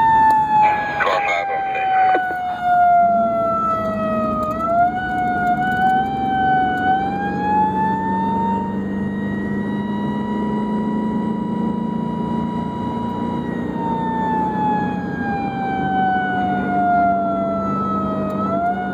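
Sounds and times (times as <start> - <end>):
emergency siren wailing: 0.0 - 18.9
vehicle driving drone: 0.0 - 18.9.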